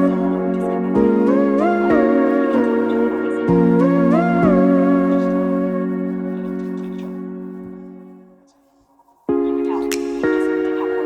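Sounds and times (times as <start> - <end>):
slow gentle instrumental music: 0.0 - 11.0.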